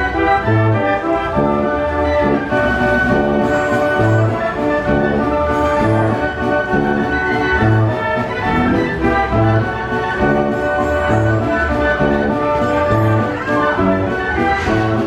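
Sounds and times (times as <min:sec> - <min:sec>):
carousel band organ playing: 0:00.0 - 0:15.0.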